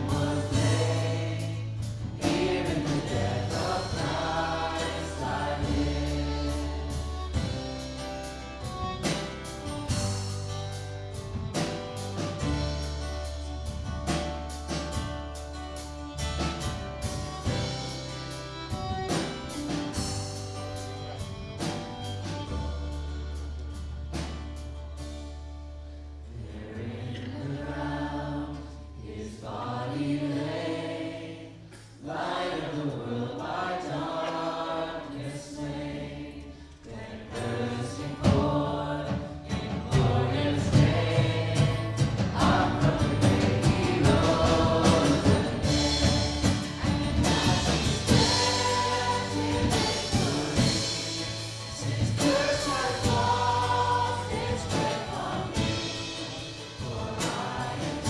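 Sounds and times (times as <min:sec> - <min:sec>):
choir singing with instruments: 0:00.0 - 0:25.2, 0:26.3 - 0:58.0.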